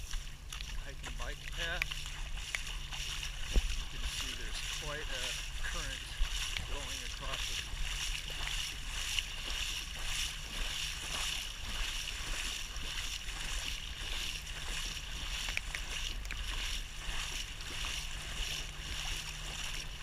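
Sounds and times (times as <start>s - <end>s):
floodwater rushing: 0.0s - 20.0s
low steady hum: 0.0s - 20.0s.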